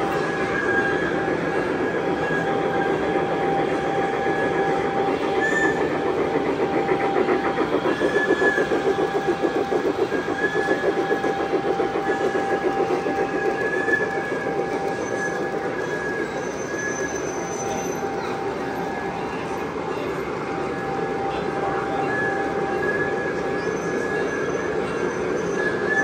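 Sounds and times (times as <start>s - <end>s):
model train motor whine: 0.0s - 26.0s.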